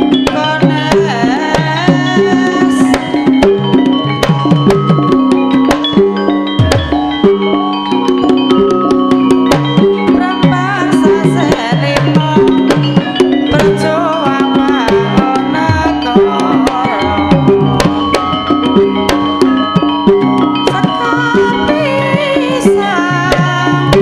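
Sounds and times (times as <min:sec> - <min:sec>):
gamelan music: 0:00.0 - 0:24.0
gong-chime and metallophone tones: 0:00.0 - 0:24.0
hand drums with pitch-bending strokes: 0:00.0 - 0:24.0.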